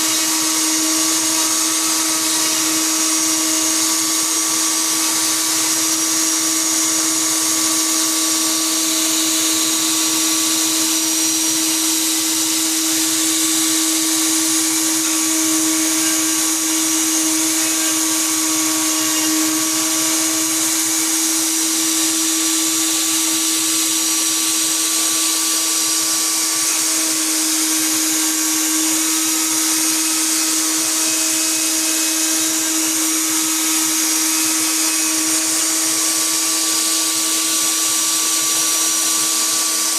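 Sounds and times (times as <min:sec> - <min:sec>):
router motor whining: 0:00.0 - 0:39.9.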